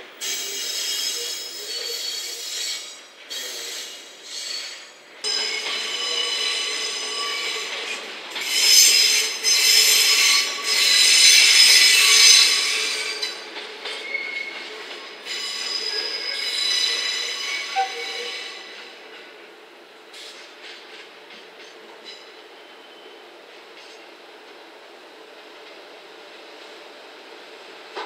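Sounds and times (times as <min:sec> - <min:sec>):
train wheels squealing on rails: 0:00.0 - 0:19.5, 0:20.1 - 0:24.2.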